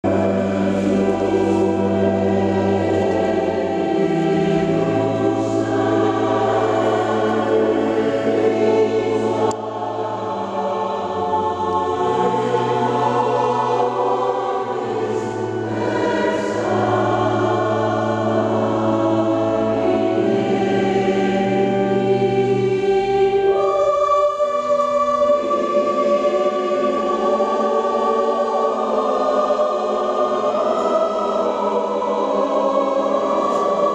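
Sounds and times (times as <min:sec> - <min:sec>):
choir singing a hymn: 0:00.0 - 0:33.9.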